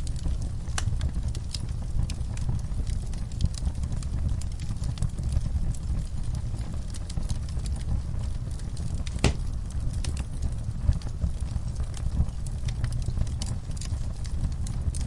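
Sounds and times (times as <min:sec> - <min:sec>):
fireplace crackling and popping: 0:00.0 - 0:15.0
low steady rumble: 0:00.0 - 0:15.0.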